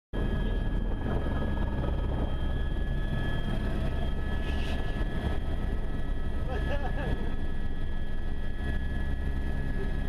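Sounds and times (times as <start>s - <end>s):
helicopter rotor beat: 0.2s - 10.0s
high turbine whine: 0.2s - 10.0s.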